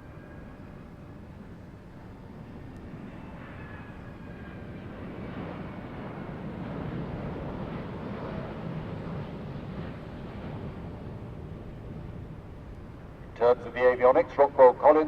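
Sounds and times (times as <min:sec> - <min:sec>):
jet airliner flying past: 0:00.0 - 0:15.0.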